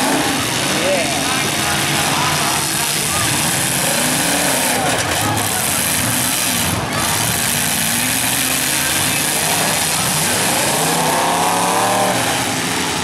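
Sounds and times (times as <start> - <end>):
car engine revving: 0.0 - 13.0
car engines running together: 0.0 - 13.0.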